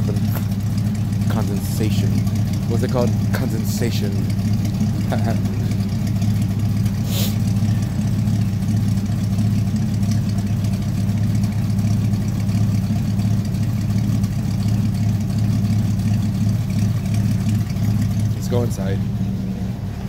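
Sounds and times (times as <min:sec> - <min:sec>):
pickup truck exhaust idling: 0:00.0 - 0:20.0.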